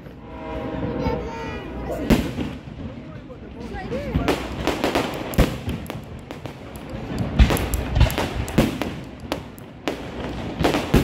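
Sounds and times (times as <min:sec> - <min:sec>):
fireworks bangs and booms: 0:02.0 - 0:11.0
fireworks crackle: 0:02.0 - 0:11.0.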